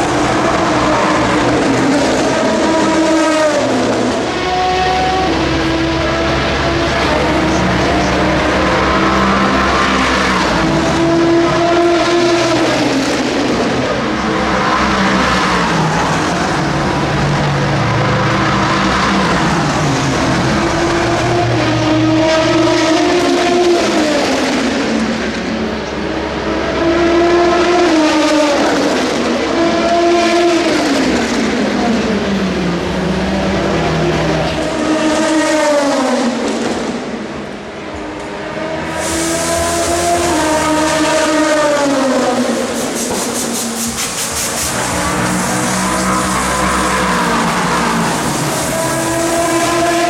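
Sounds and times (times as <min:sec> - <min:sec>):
race cars passing at speed: 0:00.0 - 0:50.0.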